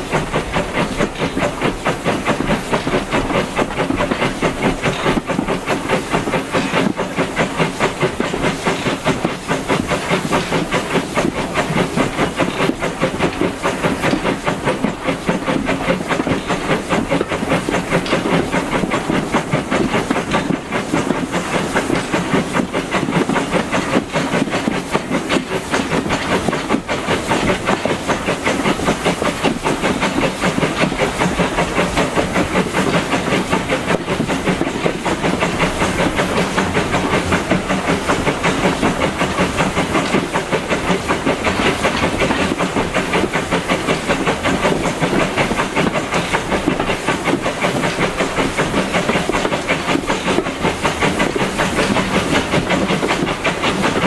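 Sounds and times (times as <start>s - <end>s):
carriage running on rails: 0.0s - 54.0s
locomotive steam hissing: 0.0s - 54.0s.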